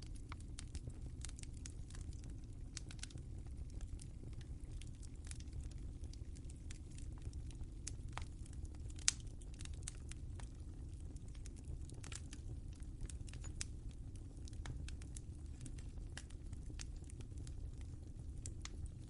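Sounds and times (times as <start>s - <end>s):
fire pops and snaps: 0.0s - 19.0s
low rumble of flames: 0.0s - 19.0s
wood fire crackling: 0.0s - 19.0s.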